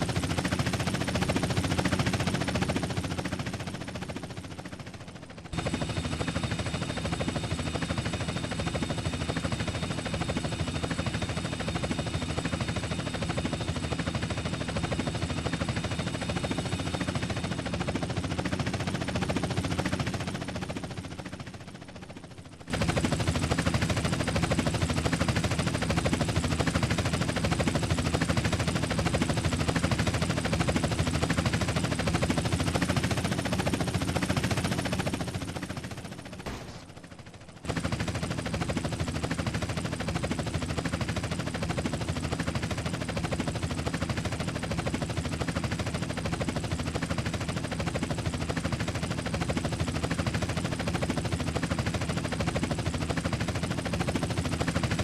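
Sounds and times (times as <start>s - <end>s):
helicopter rotor chop: 0.0s - 55.0s.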